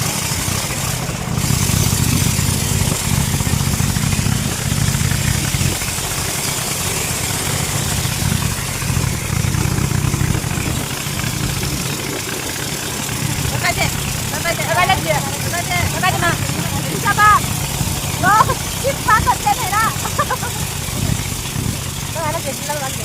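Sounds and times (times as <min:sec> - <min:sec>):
speedboat engine running: 0:00.0 - 0:23.0.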